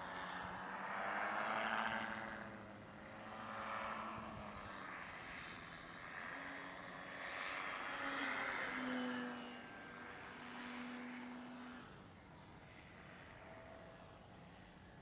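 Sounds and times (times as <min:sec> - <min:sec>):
model plane motor droning: 0:00.0 - 0:15.0.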